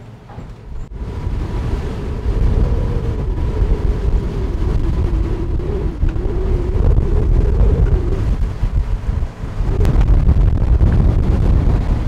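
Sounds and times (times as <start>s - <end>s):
faint wavering hum: 0.0s - 12.0s
wind buffeting microphone: 0.0s - 12.0s.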